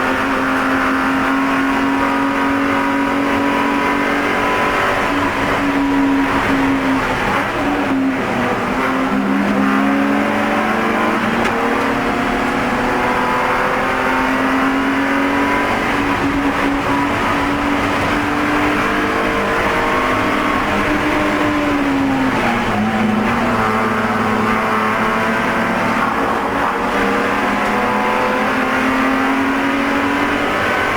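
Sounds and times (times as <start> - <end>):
race car engine at high revs: 0.0 - 30.9.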